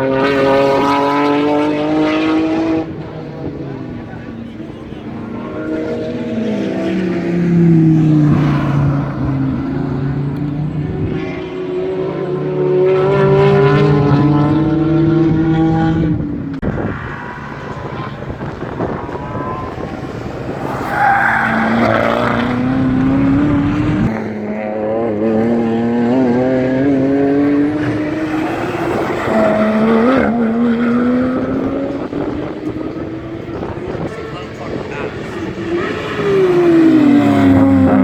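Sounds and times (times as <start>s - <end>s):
race car engines accelerating: 0.0s - 38.0s.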